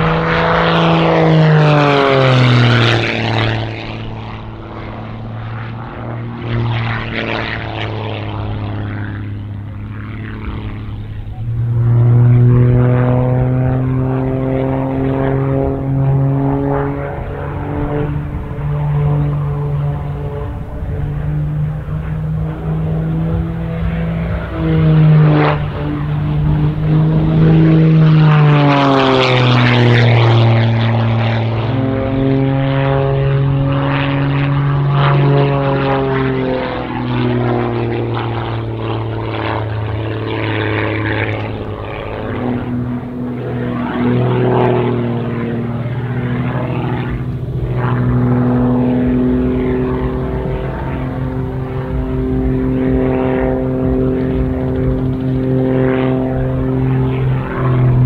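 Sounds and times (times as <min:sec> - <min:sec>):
propeller plane engine: 0:00.0 - 0:58.0.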